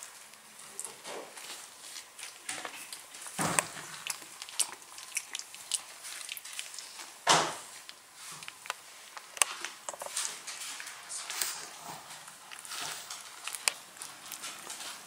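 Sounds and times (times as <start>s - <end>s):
puppy noises: 0.0s - 7.2s, 8.3s - 15.0s
puppies rustling on a pad: 0.0s - 15.0s.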